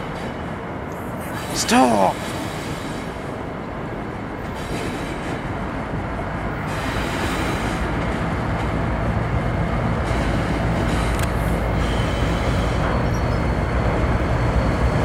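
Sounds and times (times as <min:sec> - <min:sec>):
diesel locomotive engine drone: 0:00.0 - 0:15.0
train rail rumble: 0:00.0 - 0:15.0.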